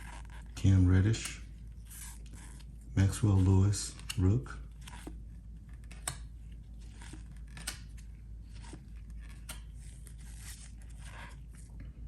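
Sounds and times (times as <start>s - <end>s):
cards sliding: 0.0s - 11.6s.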